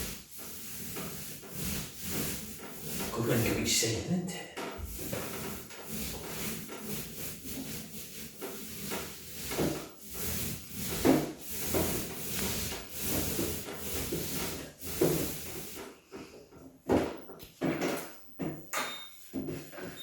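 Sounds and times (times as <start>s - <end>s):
rubbing and scraping strokes: 0.0s - 17.3s.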